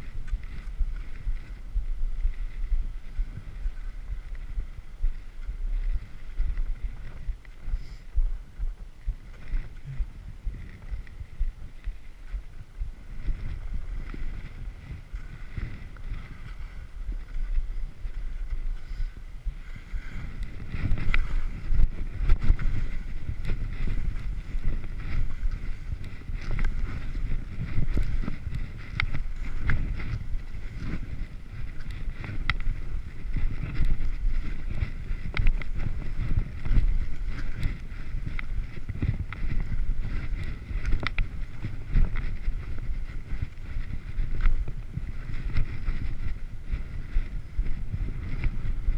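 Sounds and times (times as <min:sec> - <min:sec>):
skis sliding on snow: 0:00.0 - 0:48.9
wind rumbling on microphone: 0:00.0 - 0:48.9.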